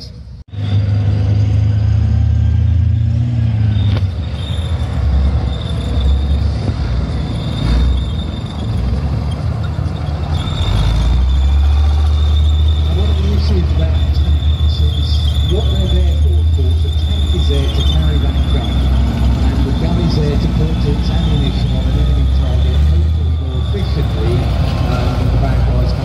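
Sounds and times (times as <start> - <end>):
tank engine rumble: 0.0 - 26.0.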